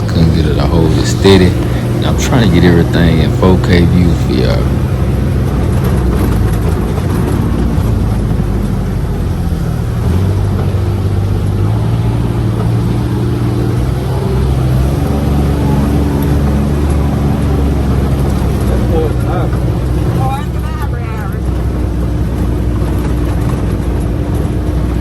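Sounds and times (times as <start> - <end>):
utility vehicle engine humming: 0.0 - 25.0.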